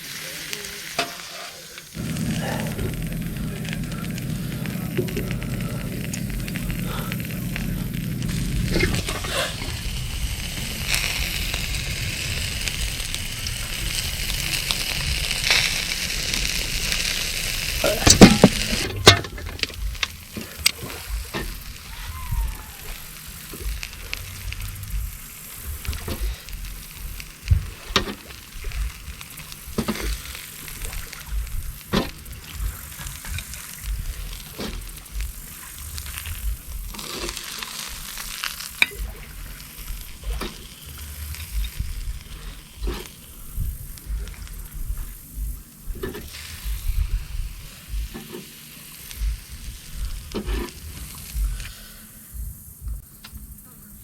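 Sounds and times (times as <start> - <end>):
chicken sizzling on grill: 0.0 - 53.9
crackles and taps: 1.8 - 53.6.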